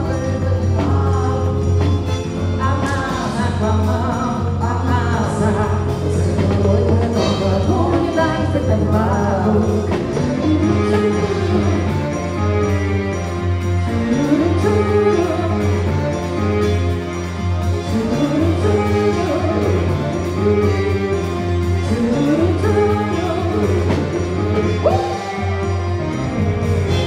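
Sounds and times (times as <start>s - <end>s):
person singing: 0.0s - 12.8s, 13.8s - 17.0s, 17.7s - 26.3s
band playing a song: 0.0s - 27.0s.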